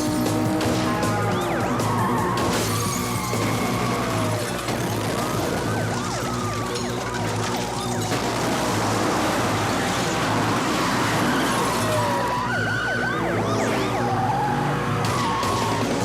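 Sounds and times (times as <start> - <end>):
police sirens wailing: 0.0 - 16.0
racing car engines: 0.0 - 16.0.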